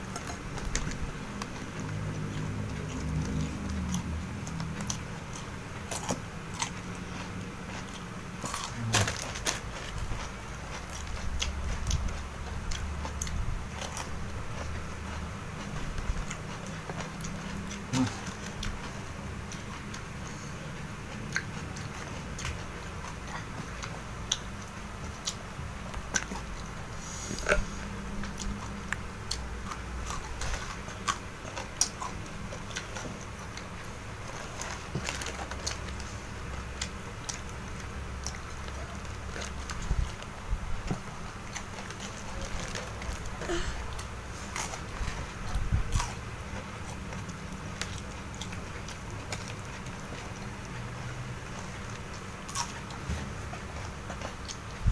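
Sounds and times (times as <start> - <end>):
food crunching: 0.0 - 54.9
person chewing wetly: 0.0 - 54.9.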